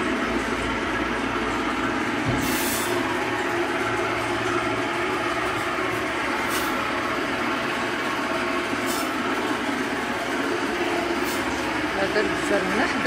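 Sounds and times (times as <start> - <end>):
droning machine noise: 0.0 - 13.0.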